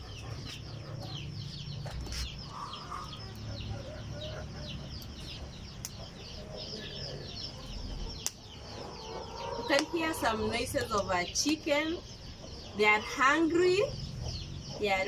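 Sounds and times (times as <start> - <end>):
chickens cheeping: 0.0 - 15.0.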